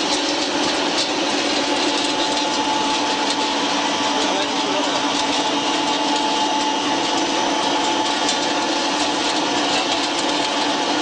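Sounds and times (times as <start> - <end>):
pellet mill mechanical din: 0.0 - 11.0
steady machine hum: 0.0 - 11.0.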